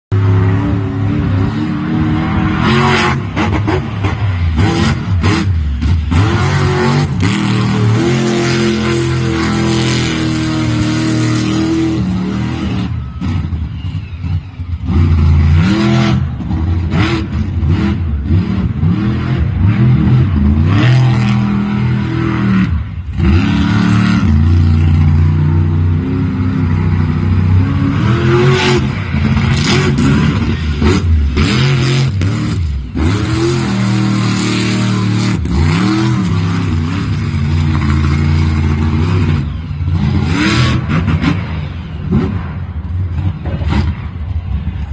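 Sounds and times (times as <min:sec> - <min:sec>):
truck engine revving: 0:00.1 - 0:44.9.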